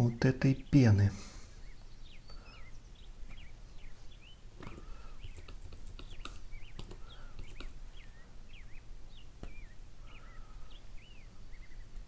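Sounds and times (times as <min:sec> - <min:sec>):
small bird chirping: 0:00.5 - 0:12.0.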